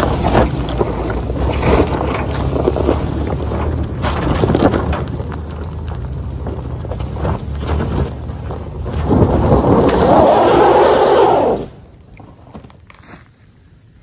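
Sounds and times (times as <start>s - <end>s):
car engine under load: 0.0s - 13.0s.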